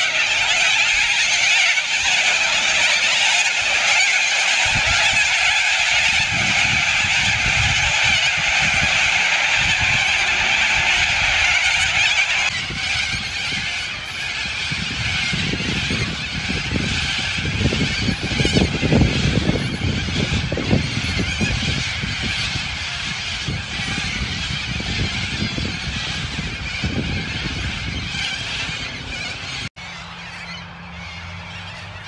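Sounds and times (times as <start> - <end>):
cockatoos screeching: 0.0 - 32.0.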